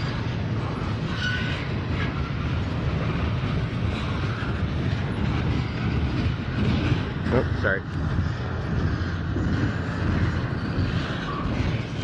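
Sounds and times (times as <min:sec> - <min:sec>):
steel train wheels rumbling on rail: 0:00.0 - 0:12.0.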